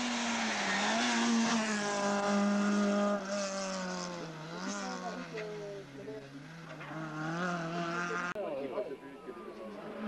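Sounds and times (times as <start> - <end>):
rally car engine at high revs: 0.0 - 8.4.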